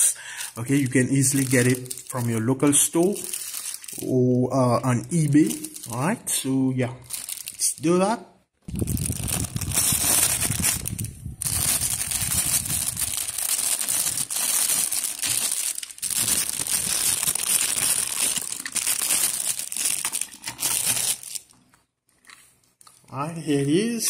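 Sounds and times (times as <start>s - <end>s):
plastic packaging crinkling: 0.0s - 4.2s, 5.0s - 6.2s, 7.0s - 8.0s, 8.6s - 23.2s.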